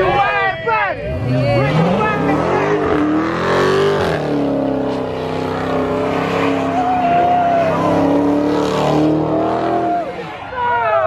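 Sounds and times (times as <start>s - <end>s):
tires squealing: 0.0s - 11.0s
car engine revving hard: 1.0s - 10.3s.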